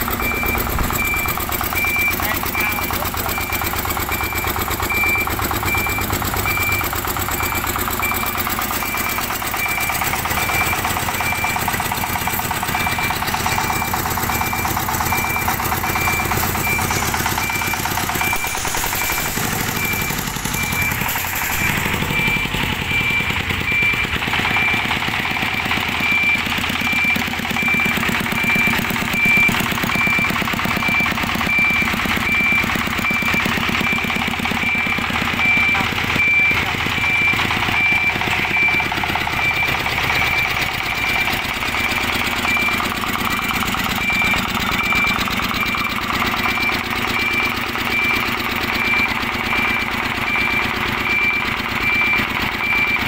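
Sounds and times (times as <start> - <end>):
diesel engine exhaust beats: 0.0 - 53.0
electronic beeper: 0.0 - 53.0.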